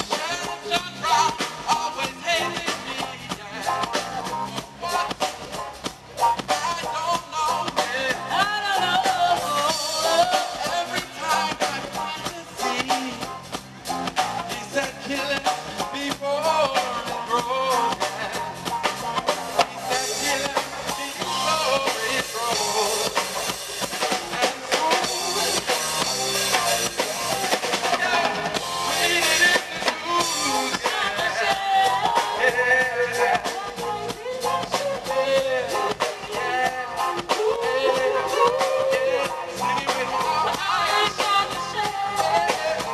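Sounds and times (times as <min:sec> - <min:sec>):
man singing into microphone: 0:00.0 - 0:05.6, 0:06.5 - 0:13.5, 0:14.4 - 0:42.9
reggae band playing: 0:00.0 - 0:42.9.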